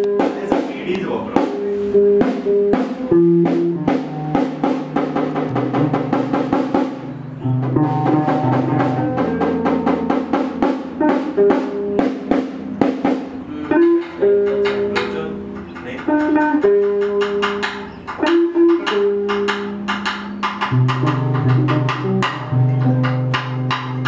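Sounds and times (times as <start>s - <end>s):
drum kit playing fast beat: 0.0s - 24.0s
guitar playing notes: 0.0s - 24.0s.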